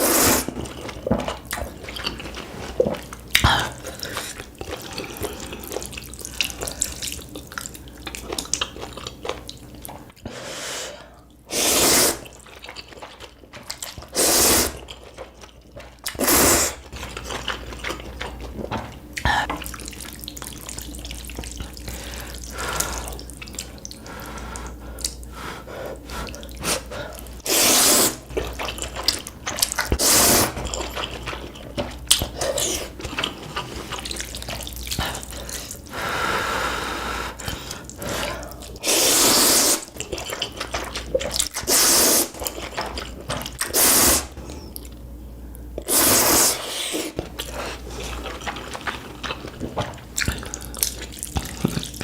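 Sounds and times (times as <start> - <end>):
wet chewing: 0.0 - 10.3, 11.2 - 36.0, 37.3 - 52.0
noodles being slurped: 0.0 - 25.3, 25.9 - 36.0, 37.2 - 44.9, 45.8 - 52.0.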